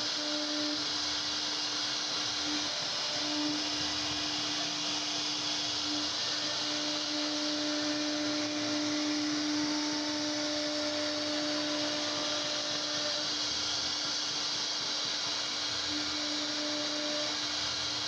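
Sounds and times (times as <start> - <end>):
bit cutting wood hiss: 0.0 - 18.0
router spindle whine: 0.0 - 18.0.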